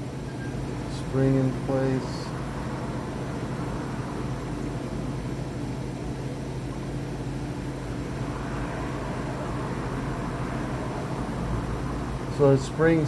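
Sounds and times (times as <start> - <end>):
ventilation equipment humming: 0.0 - 13.0.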